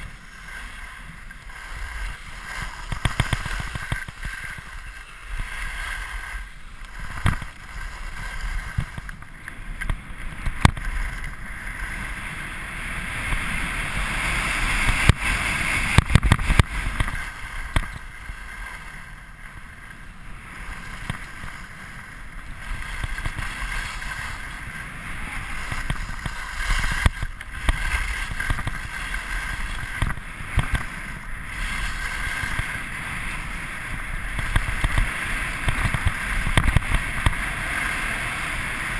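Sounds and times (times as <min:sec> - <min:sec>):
skis hissing over packed snow: 0:00.0 - 0:38.9
wind rushing over microphone: 0:00.0 - 0:38.9.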